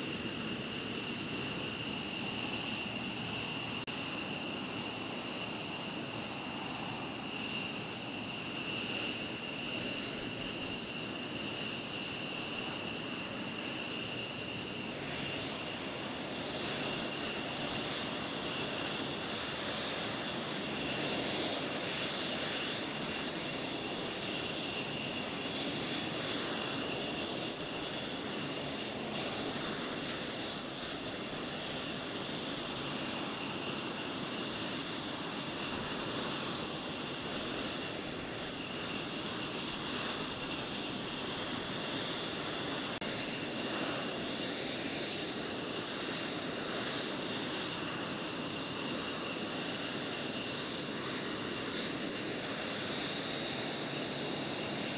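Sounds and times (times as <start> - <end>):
jet engines idling: 0.0 - 54.9.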